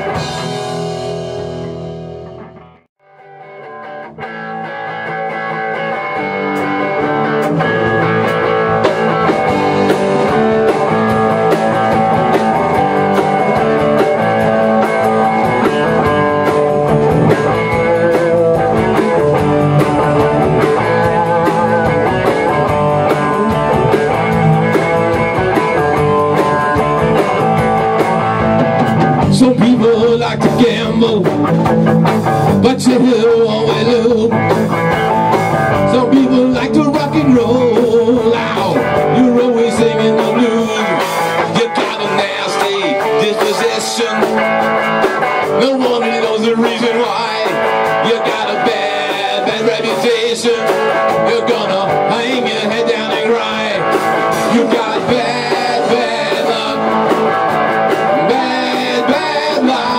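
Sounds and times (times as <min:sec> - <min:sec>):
rock band playing blues-rock: 0:00.0 - 0:59.9.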